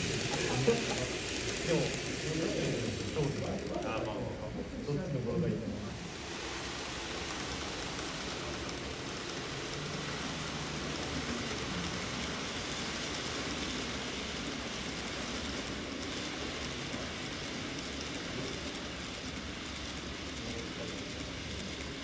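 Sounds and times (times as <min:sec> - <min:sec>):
model trains rolling on track: 0:00.0 - 0:22.0.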